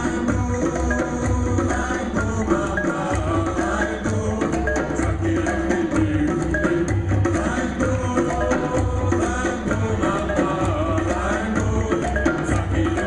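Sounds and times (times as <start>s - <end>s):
rhythmic drumming: 0.0s - 13.0s.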